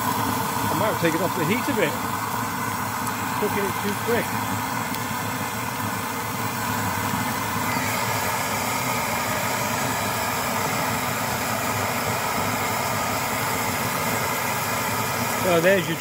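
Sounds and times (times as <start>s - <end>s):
pressure stove burner rushing: 0.0s - 16.0s.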